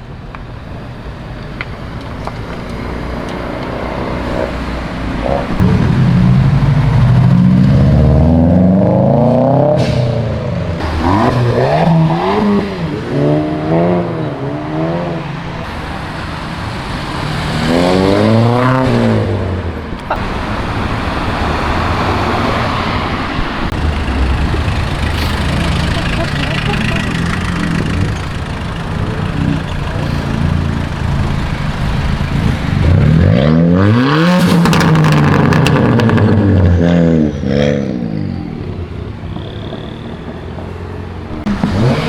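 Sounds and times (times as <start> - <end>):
car engines revving and accelerating: 0.0 - 42.0
traffic noise: 0.0 - 42.0.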